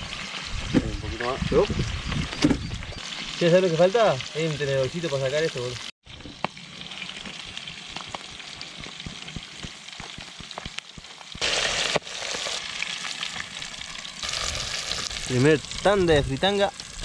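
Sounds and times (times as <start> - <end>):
fish deep-frying in hot oil: 0.0 - 17.0
oil popping and crackling: 0.0 - 17.0.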